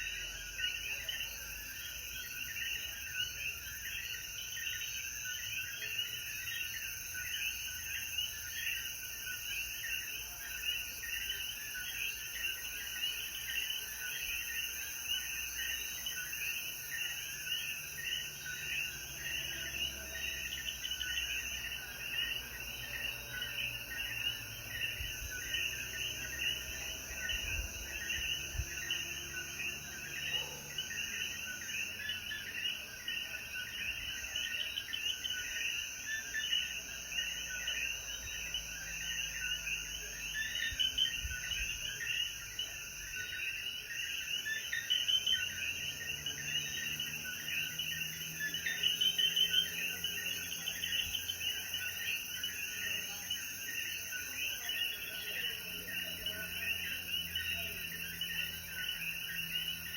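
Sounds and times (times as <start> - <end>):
frogs calling in chorus: 0.0 - 59.9.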